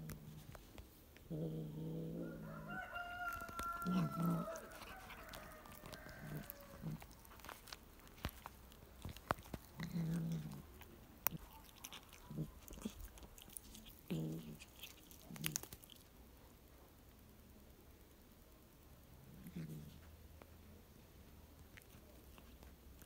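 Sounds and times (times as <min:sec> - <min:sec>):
cat chewing and crunching bone: 0:00.0 - 0:16.6, 0:19.1 - 0:23.0.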